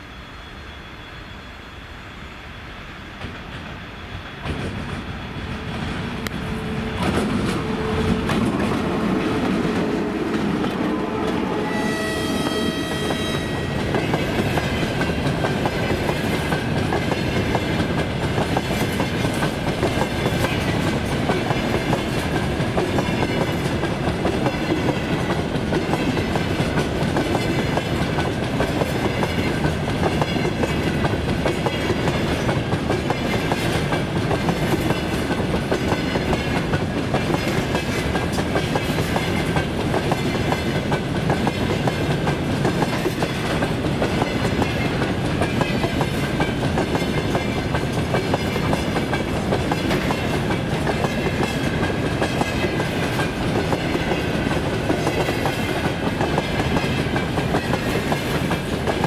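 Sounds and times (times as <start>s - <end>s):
train wheels rumbling on rails: 0.0s - 59.0s
wheels clickety-clack over rail joints: 3.2s - 11.4s, 12.9s - 59.0s.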